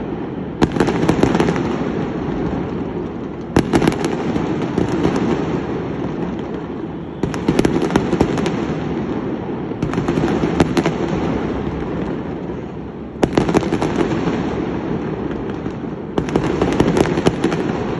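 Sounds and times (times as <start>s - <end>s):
fireworks banging and crackling: 0.0s - 17.9s.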